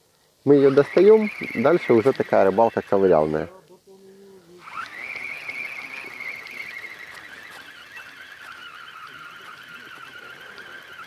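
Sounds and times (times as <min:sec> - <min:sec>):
fishing reel whirring: 0:00.5 - 0:03.6, 0:04.4 - 0:11.0.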